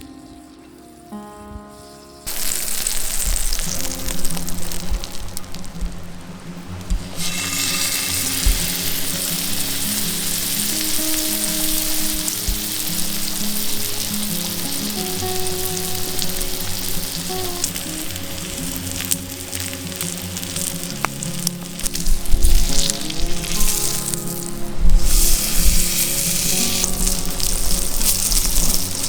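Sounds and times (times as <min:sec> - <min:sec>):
meat sizzling on a grill: 0:01.2 - 0:29.0.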